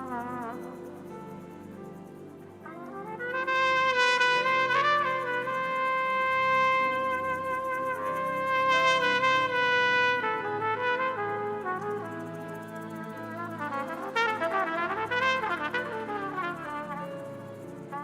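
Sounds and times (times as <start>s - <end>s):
trumpet playing sustained note: 0.0s - 1.4s, 2.6s - 18.0s
soft backing chords: 0.0s - 18.0s.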